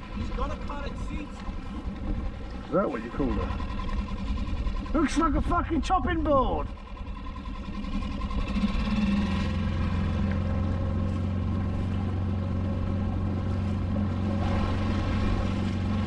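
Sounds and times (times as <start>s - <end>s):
outboard motor running: 0.0s - 16.0s
water rushing along hull: 0.0s - 16.0s.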